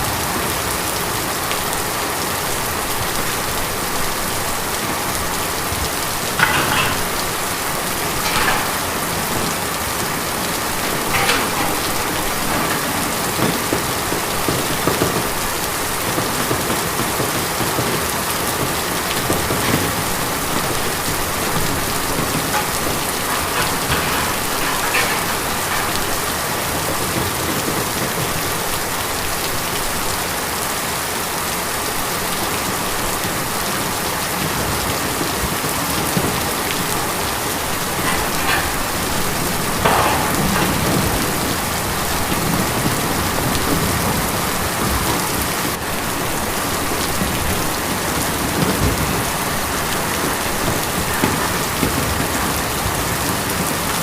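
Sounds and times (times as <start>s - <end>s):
rain pattering on tin: 0.0s - 54.0s.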